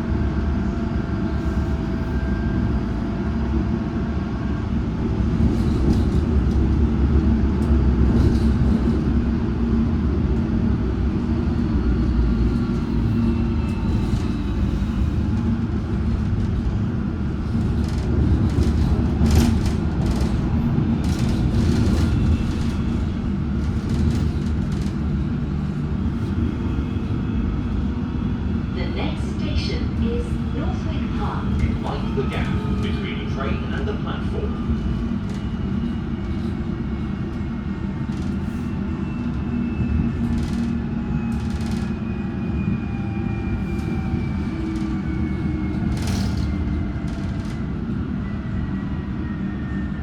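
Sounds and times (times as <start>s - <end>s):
train wheels rumbling on track: 0.0s - 50.0s.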